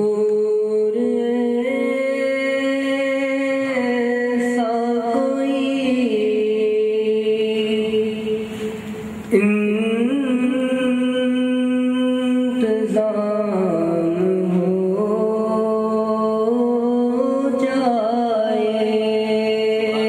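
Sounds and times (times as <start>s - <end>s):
man singing unaccompanied: 0.0s - 8.4s, 9.3s - 20.0s.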